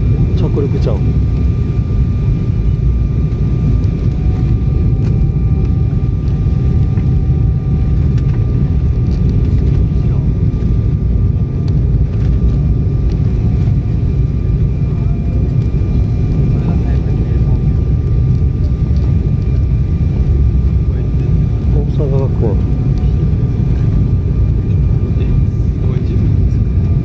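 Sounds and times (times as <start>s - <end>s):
jet engine and airflow rumble: 0.0s - 27.0s.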